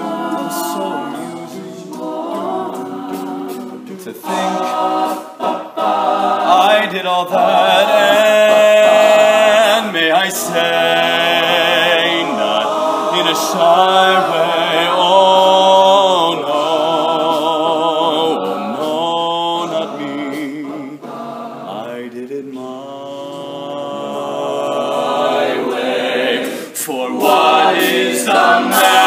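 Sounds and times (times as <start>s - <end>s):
male group vocal chords: 0.0s - 29.0s.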